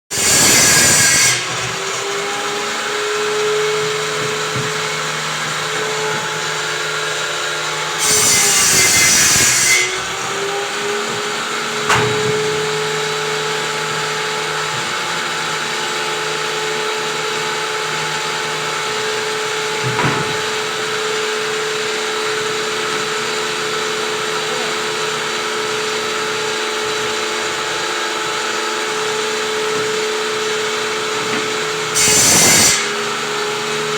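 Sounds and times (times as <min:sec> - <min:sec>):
power saw whining: 0:00.1 - 0:33.9
saw rasping through plywood: 0:00.1 - 0:33.9.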